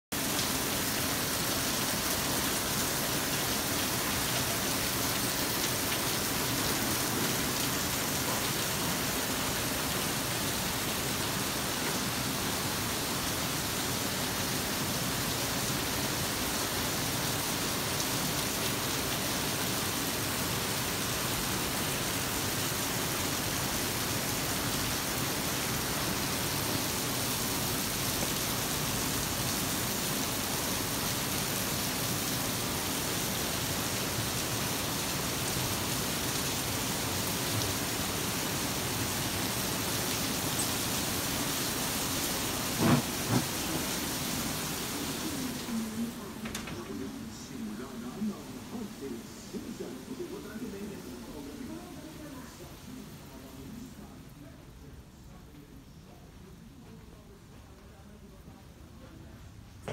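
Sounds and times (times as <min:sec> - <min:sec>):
steady rain falling: 0:00.1 - 0:59.9.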